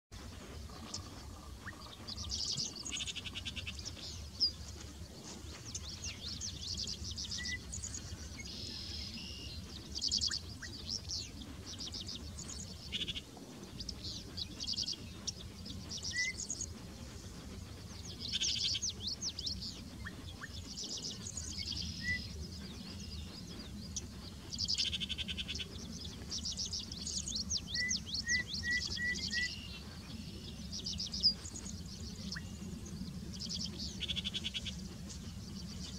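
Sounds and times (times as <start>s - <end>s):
steady low rumble: 0.2s - 35.9s.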